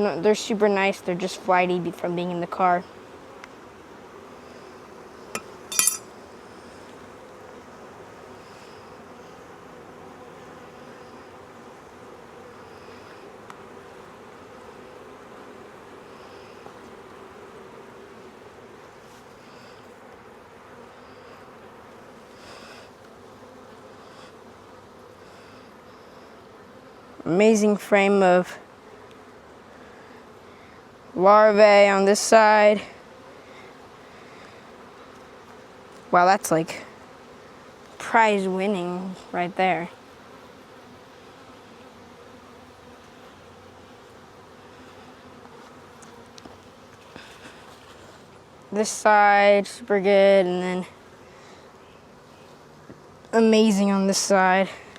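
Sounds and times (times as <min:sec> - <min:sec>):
honeybees buzzing: 0:00.0 - 0:54.9.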